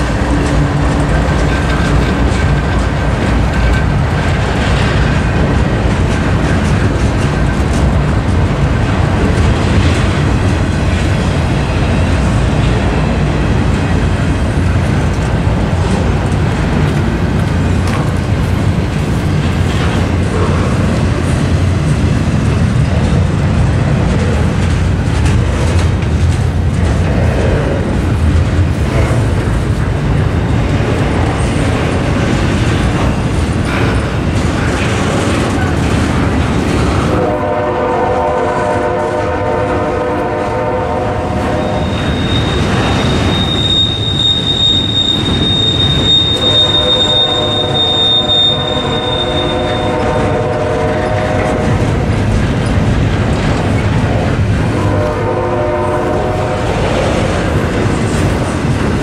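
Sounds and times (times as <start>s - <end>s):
freight train wheels rumbling on rails: 0.0s - 59.0s
train wheel clacks: 0.0s - 59.0s.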